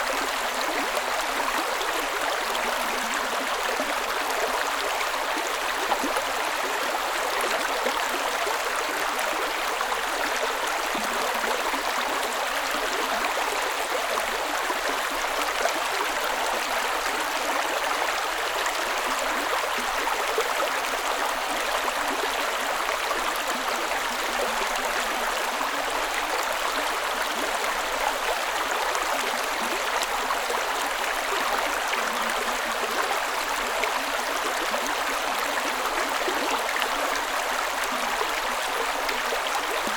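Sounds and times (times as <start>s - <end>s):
creek running over rocks: 0.0s - 39.9s.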